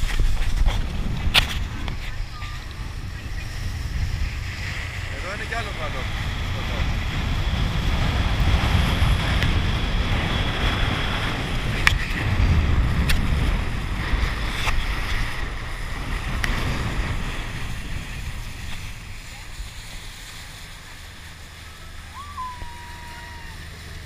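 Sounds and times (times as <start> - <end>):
speedboat engine and wake: 0.0 - 24.0
wind buffeting microphone: 0.0 - 24.0.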